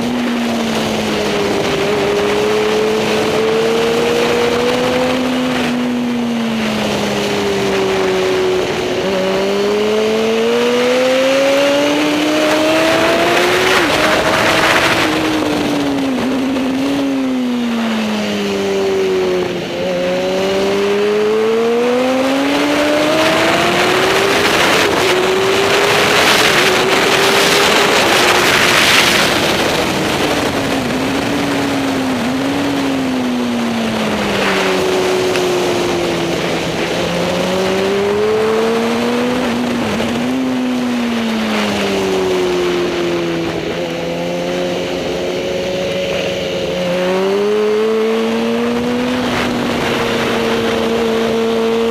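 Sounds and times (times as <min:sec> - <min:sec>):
racing motorcycle engine revving: 0:00.0 - 0:51.9.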